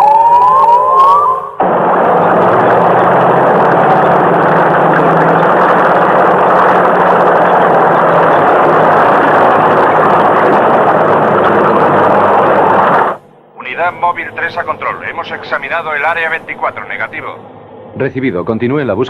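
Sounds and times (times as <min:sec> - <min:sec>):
loud engine drone: 0:00.0 - 0:19.0.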